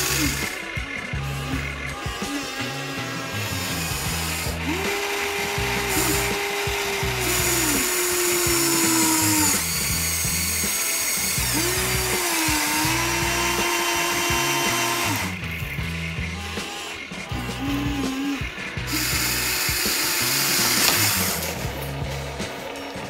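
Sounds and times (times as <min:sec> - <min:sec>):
background music with steady beat: 0:00.0 - 0:23.0
toy excavator electric motors whining: 0:00.0 - 0:23.0.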